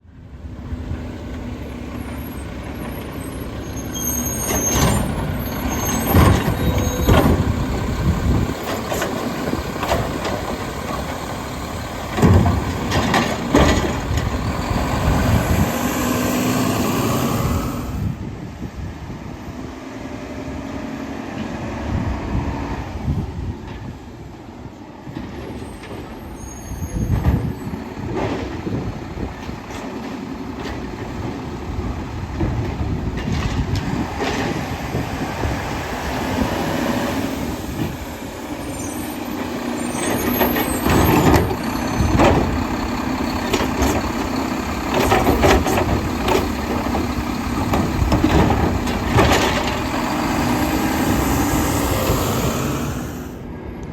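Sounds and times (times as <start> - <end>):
garbage truck engine running: 0.1 - 18.3, 24.7 - 53.7.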